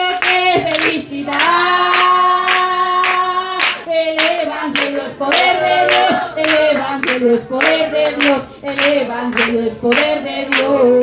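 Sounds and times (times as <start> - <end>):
congregation clapping in time: 0.0 - 10.8
woman singing wordless melody: 0.0 - 11.0.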